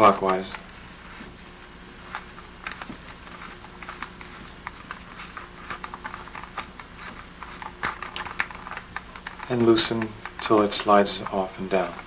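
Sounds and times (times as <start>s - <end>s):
faint steady hum: 0.0s - 12.0s
light clicks and taps: 2.1s - 12.0s.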